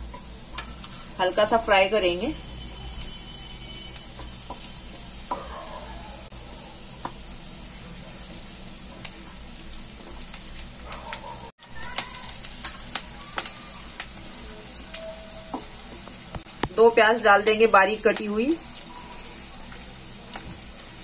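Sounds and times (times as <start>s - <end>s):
garlic sizzling in hot oil: 0.0s - 21.0s.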